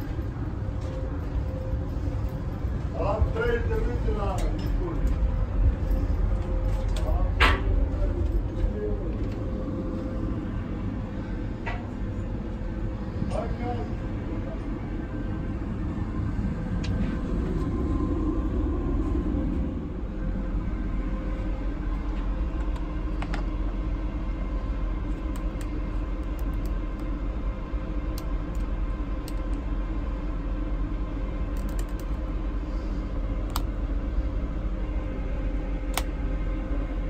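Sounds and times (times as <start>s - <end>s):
faint steady hum: 0.0s - 37.0s
train low rumble: 0.0s - 37.0s.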